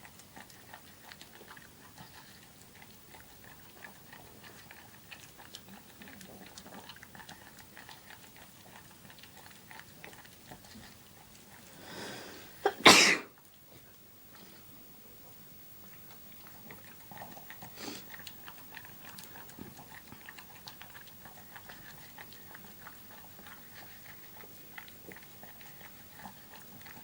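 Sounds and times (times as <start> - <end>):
dog chewing and licking: 0.0 - 12.7, 13.4 - 27.0.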